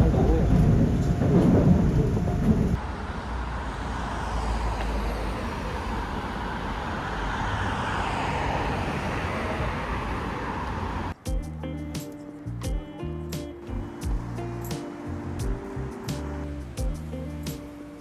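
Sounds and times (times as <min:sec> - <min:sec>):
steady traffic hiss: 0:00.0 - 0:18.0
traffic rumble: 0:00.0 - 0:18.0.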